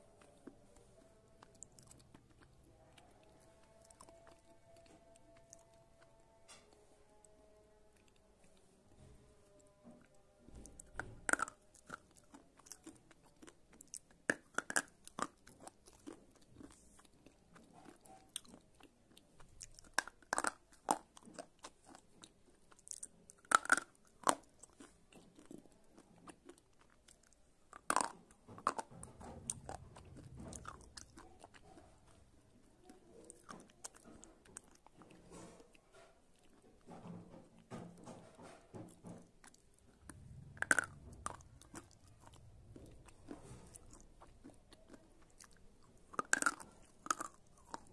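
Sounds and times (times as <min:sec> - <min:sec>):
gritty chewing: 0:00.0 - 0:47.9.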